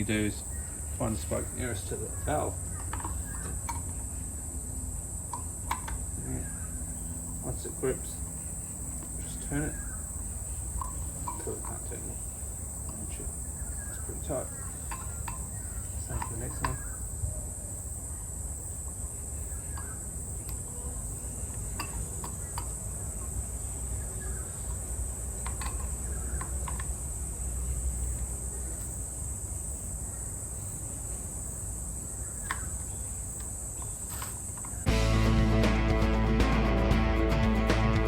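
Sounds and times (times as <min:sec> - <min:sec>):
crickets chirring: 0:00.0 - 0:34.9.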